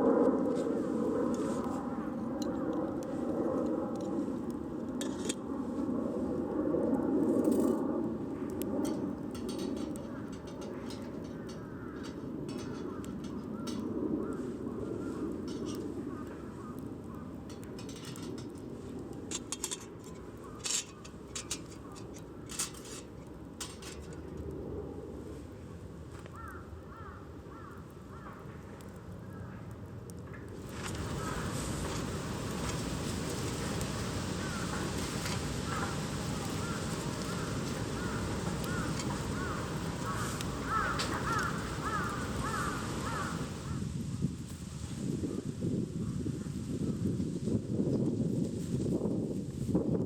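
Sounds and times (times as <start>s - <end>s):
campfire crackling: 0.0s - 45.8s.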